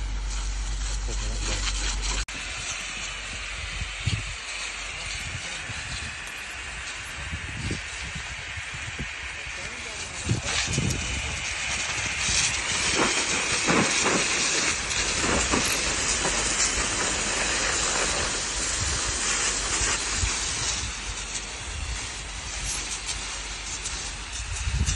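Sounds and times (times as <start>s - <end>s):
hose spraying water: 0.0s - 24.9s.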